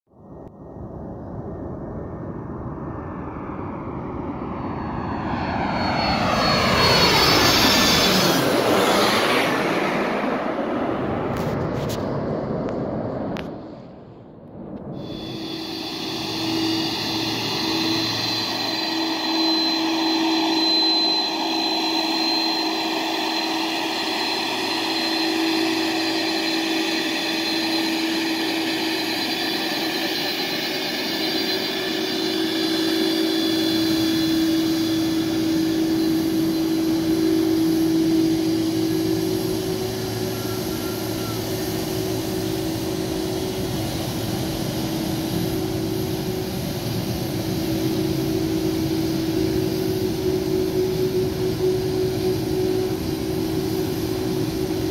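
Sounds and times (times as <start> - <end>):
jet engines whining: 0.4 - 54.9.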